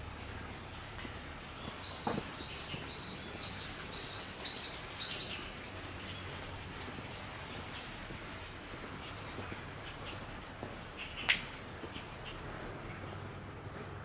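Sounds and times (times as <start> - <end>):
low outdoor hum: 0.0 - 14.0.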